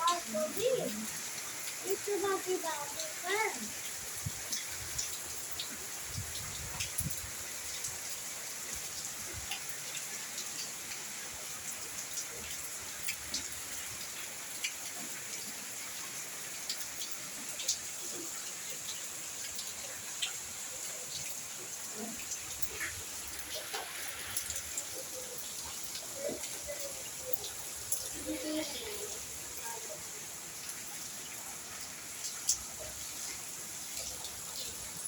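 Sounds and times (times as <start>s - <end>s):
raindrops ticking close by: 0.0s - 35.0s
steady rain hissing: 0.0s - 35.0s.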